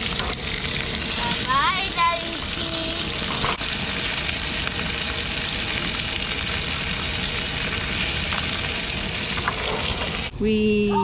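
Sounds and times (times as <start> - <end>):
sausages sizzling in a frying pan: 0.0 - 10.3.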